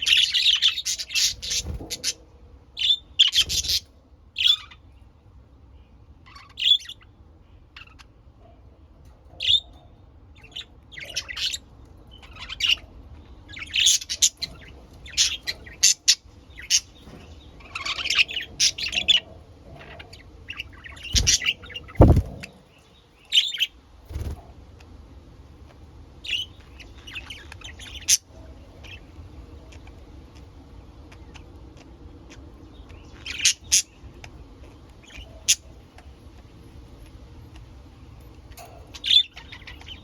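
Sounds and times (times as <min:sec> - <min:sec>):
budgerigars chirping: 0:00.0 - 0:02.2, 0:02.8 - 0:04.9, 0:06.2 - 0:08.1, 0:09.3 - 0:24.4, 0:26.2 - 0:40.0.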